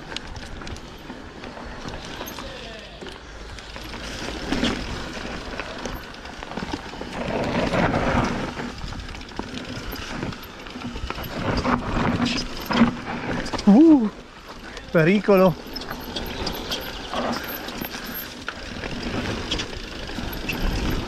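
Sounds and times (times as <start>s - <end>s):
bike tyres rolling on dirt: 0.0s - 21.0s.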